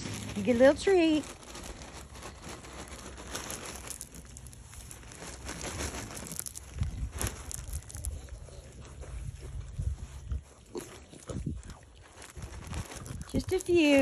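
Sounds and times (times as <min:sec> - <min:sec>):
cereal bag crinkling: 0:00.0 - 0:14.0.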